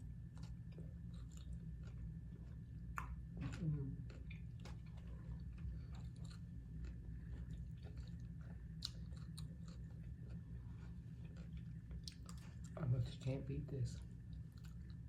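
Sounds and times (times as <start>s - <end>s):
steady low hum: 0.0s - 15.0s
person chewing salad: 0.1s - 13.3s, 13.9s - 15.0s.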